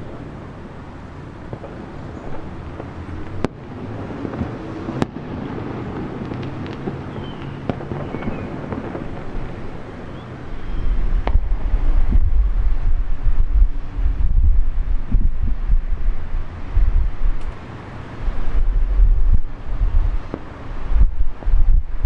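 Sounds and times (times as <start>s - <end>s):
fireworks bursting and crackling: 0.0s - 22.0s
wind buffeting microphone: 0.0s - 22.0s.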